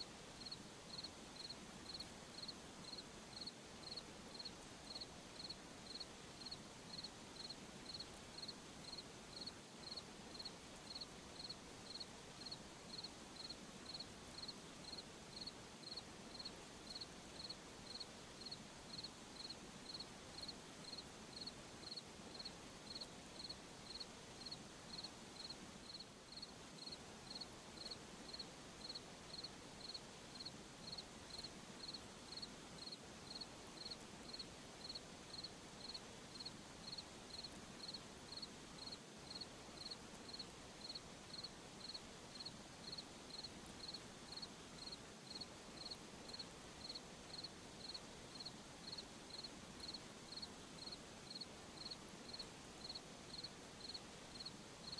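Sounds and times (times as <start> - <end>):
hiss of night insects: 0.0 - 54.9
crickets chirping: 0.4 - 54.9.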